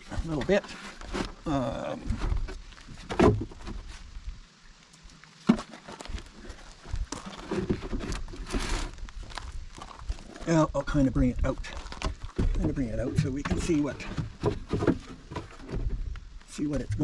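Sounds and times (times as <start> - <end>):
handling knocks and rubbing: 0.0 - 4.1, 5.4 - 17.0.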